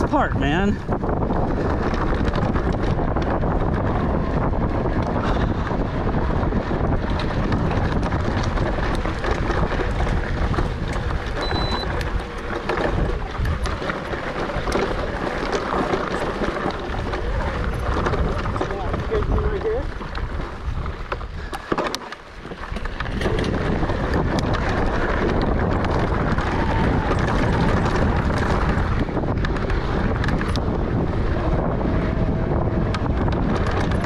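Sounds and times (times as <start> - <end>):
bike clicks and rattles: 0.0 - 34.0
bike tyres on dirt: 0.0 - 34.0
wind buffeting microphone: 0.0 - 34.0.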